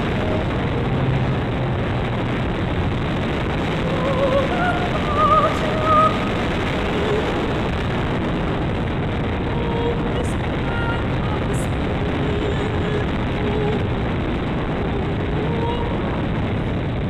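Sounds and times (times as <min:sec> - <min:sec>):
warbling tone: 0:00.0 - 0:14.2
wind rush: 0:00.0 - 0:17.0.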